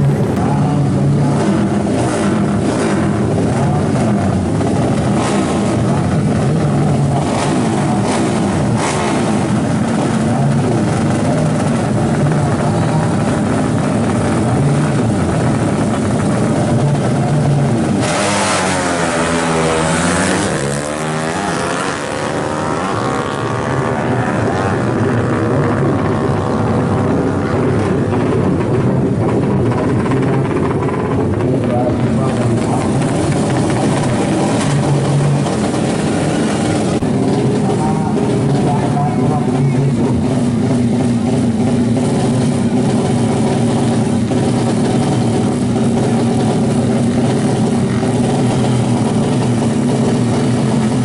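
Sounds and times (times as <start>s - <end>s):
louder engine sweeping pitch: 0.0s - 51.0s
motorcycle engines running: 0.0s - 51.0s.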